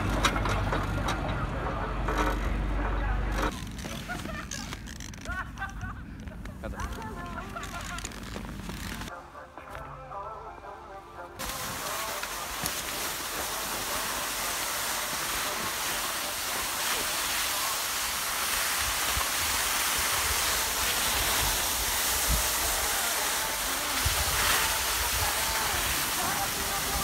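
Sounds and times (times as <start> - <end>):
skis scraping over snow: 1.8 - 9.1, 11.4 - 27.0.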